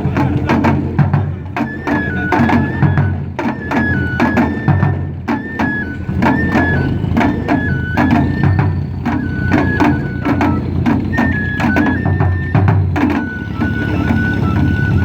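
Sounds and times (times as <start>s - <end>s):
bamboo flute melody: 0.0s - 15.0s.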